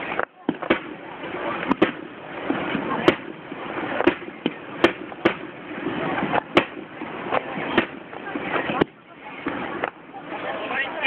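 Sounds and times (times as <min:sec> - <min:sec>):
fireworks bursting with bangs: 0:00.0 - 0:11.0
steady background noise: 0:00.0 - 0:11.0.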